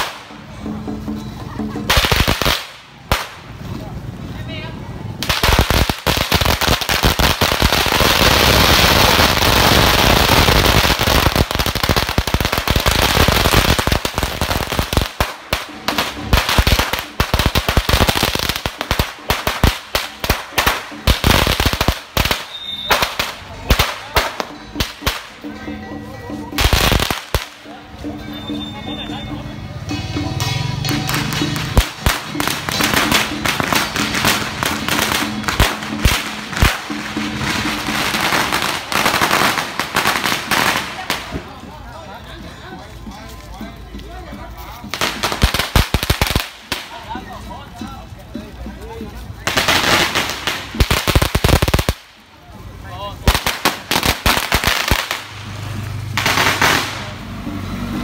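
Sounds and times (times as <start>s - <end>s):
firecrackers going off: 0.0s - 25.6s, 26.6s - 27.7s, 29.9s - 42.4s, 44.7s - 58.0s.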